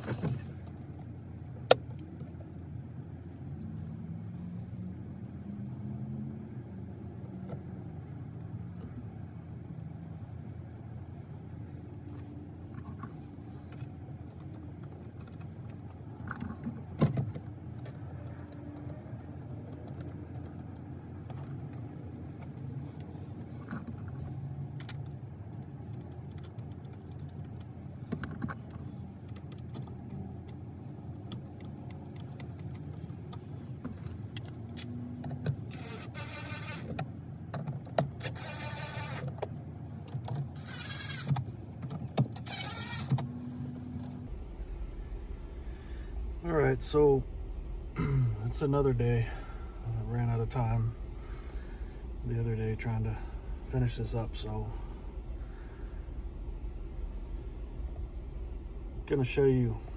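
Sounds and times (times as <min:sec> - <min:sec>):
steady low rumble: 0:00.0 - 0:42.1, 0:42.9 - 0:59.9.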